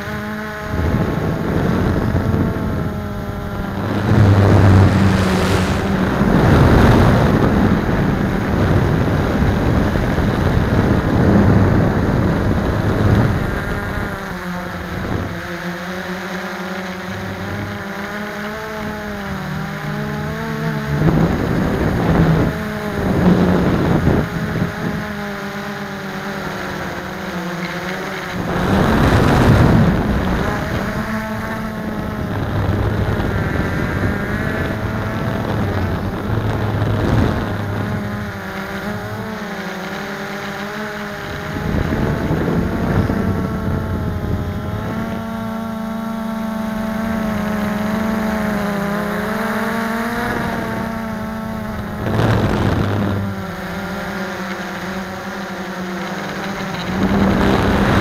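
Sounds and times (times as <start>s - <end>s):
quadcopter motors whining: 0.0s - 58.0s
wind noise gusts: 0.6s - 15.6s, 16.2s - 39.6s, 41.0s - 45.6s, 47.1s - 54.3s, 56.1s - 58.0s.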